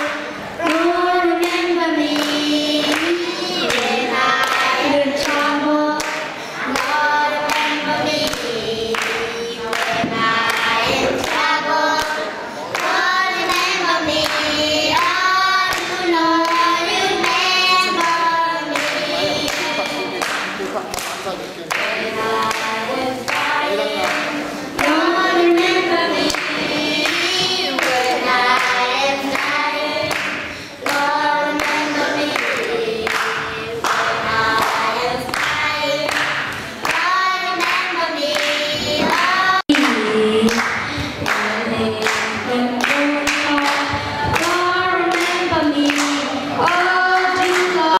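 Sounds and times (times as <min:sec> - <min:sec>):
children singing through speakers: 0:00.0 - 0:20.6, 0:21.4 - 0:48.0.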